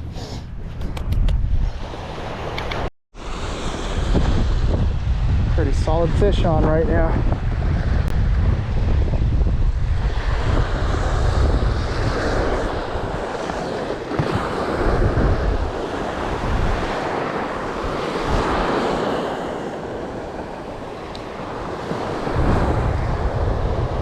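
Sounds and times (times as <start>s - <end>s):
wind buffeting microphone: 0.0s - 24.0s
surf breaking on beach: 3.2s - 24.0s.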